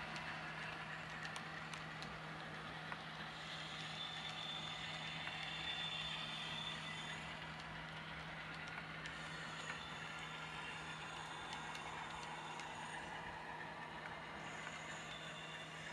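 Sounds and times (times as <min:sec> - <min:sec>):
faint clicks: 0:00.0 - 0:15.6
model train low hum: 0:00.0 - 0:15.9.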